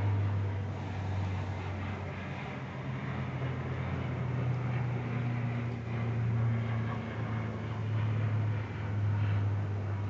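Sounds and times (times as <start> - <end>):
airplane flying past: 0.0 - 10.0.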